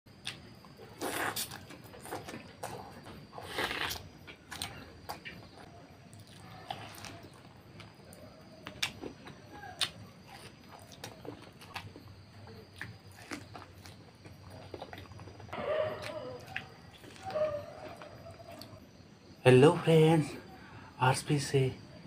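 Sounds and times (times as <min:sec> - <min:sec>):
person chewing food: 0:00.2 - 0:18.8.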